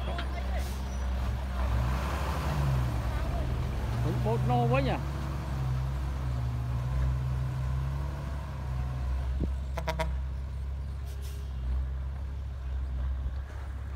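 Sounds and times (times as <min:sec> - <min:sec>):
diesel truck engine droning: 0:00.0 - 0:13.9.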